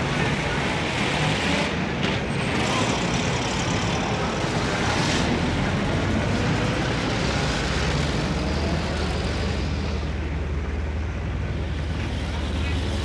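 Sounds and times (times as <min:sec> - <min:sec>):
heavy road traffic: 0:00.0 - 0:13.0.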